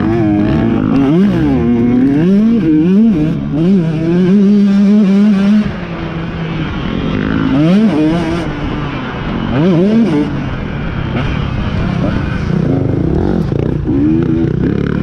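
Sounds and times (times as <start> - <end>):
motorcycle engine revving hard: 0.0 - 5.8, 6.9 - 15.0.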